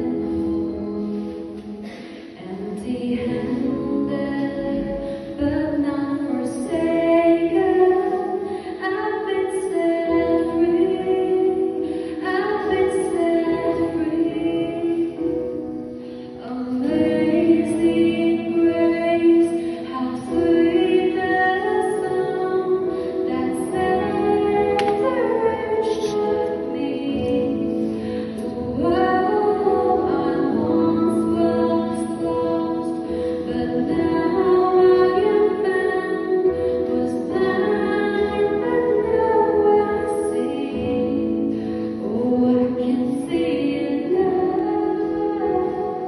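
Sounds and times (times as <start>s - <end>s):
woman singing into a microphone: 0.0s - 46.0s.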